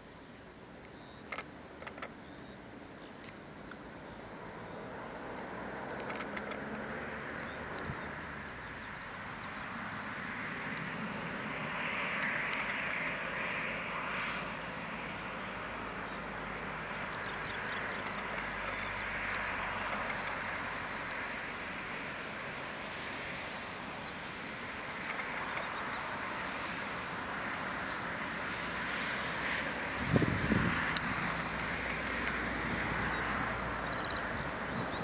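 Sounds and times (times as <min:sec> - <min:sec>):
small birds chirping: 0:00.0 - 0:11.0, 0:11.7 - 0:35.0
outdoor background hiss: 0:00.0 - 0:35.0.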